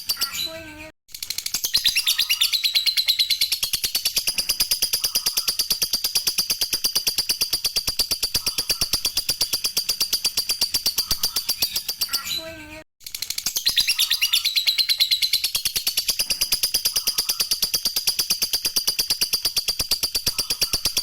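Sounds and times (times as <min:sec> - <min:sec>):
bird chattering trill: 0:01.5 - 0:12.3, 0:13.2 - 0:21.0.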